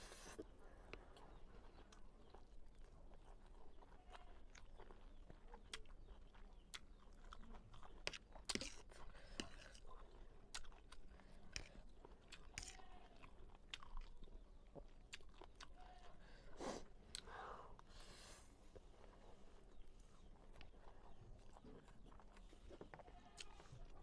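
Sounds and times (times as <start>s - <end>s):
wet chewing clicks and smacks: 0.4s - 16.3s, 17.0s - 17.9s, 18.8s - 24.0s.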